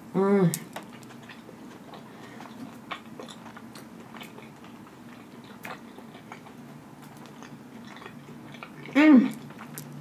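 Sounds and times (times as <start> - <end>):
chewing with wet mouth clicks: 0.5 - 10.0.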